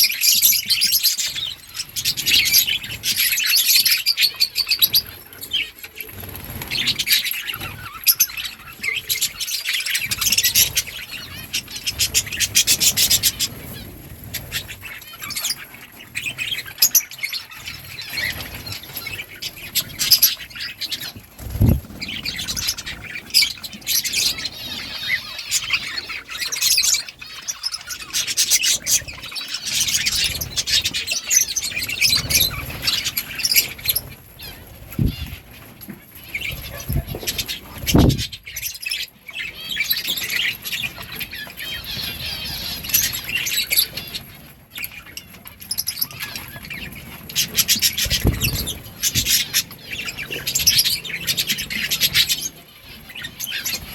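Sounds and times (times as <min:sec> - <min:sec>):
budgerigars chirping: 0:00.0 - 0:53.9.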